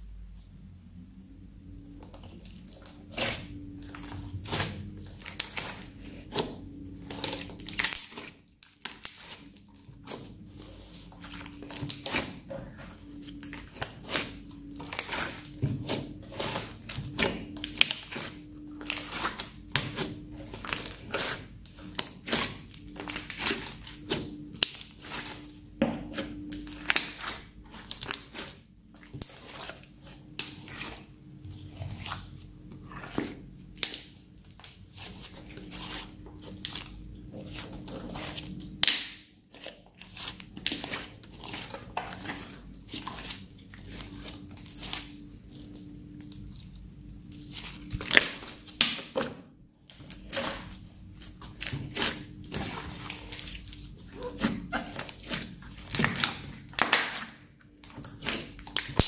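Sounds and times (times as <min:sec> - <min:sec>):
slime crackling and popping: 0:01.8 - 0:12.5, 0:13.2 - 0:46.7, 0:47.3 - 0:49.2, 0:50.0 - 0:59.0.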